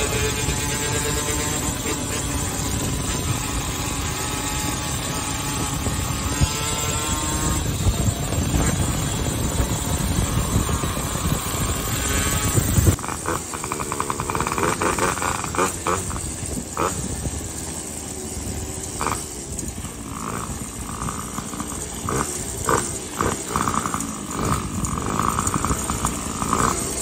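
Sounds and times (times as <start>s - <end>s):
two-stroke moped engine running: 0.0s - 27.0s
wind rush on microphone: 0.0s - 27.0s.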